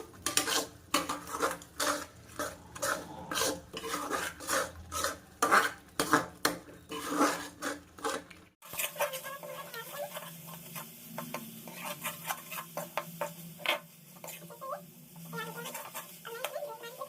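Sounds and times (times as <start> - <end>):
spoon scraping a pan: 0.0 - 17.0.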